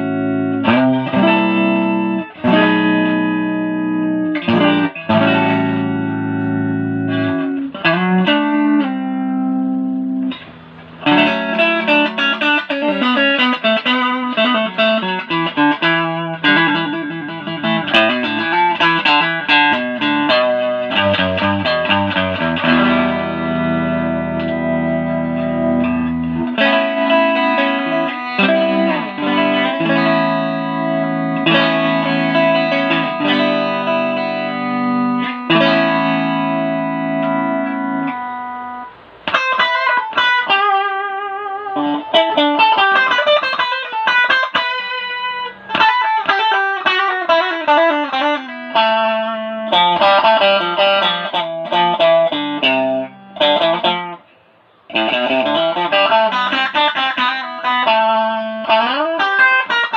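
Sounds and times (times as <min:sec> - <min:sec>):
electric guitar with effects: 0:00.0 - 0:59.9.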